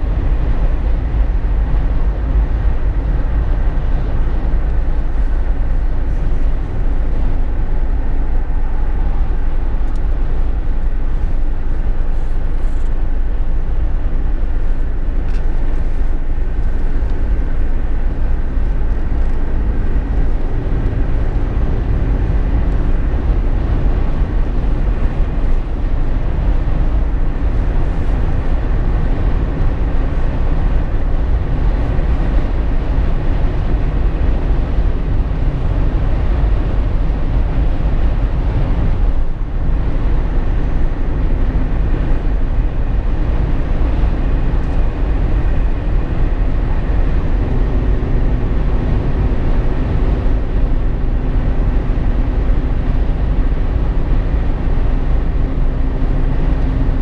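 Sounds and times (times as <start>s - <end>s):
car cabin road noise: 0.0s - 57.0s.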